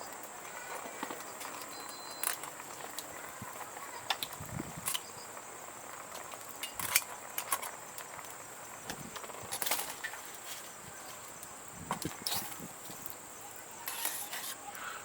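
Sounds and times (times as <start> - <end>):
light clicks and crackles: 0.0 - 13.2.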